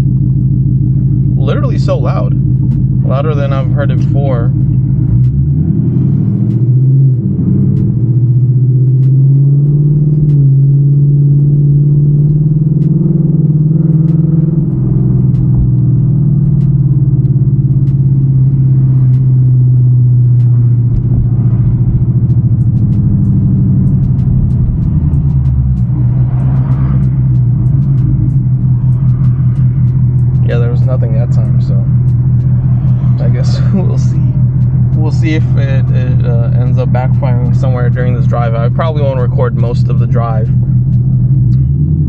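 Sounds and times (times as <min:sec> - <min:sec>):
car engine and exhaust droning: 0:00.0 - 0:42.0.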